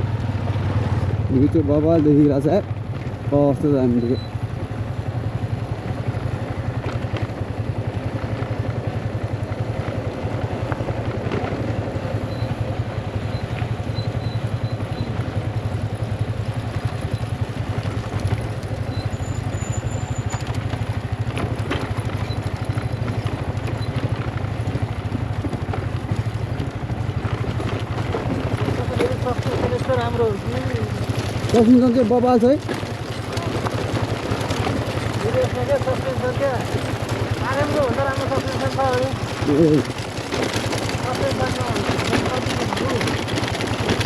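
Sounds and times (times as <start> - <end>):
motorcycle engine droning: 0.0 - 44.0.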